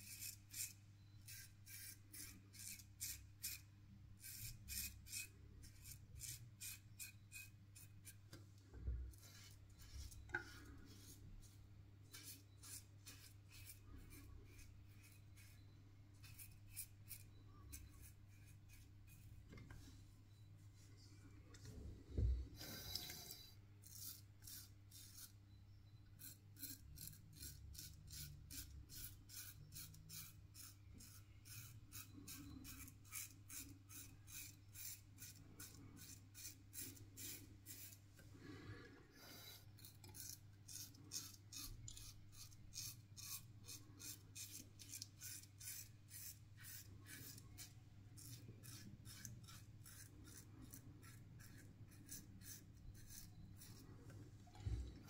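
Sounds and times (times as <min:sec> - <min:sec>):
razor rasping through stubble: 0:00.0 - 0:08.2, 0:09.1 - 0:18.9, 0:26.2 - 0:38.0, 0:39.2 - 0:53.8.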